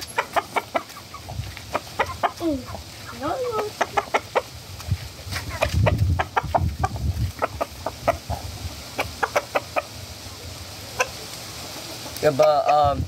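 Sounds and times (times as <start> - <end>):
rooster clucking: 0.0 - 13.0.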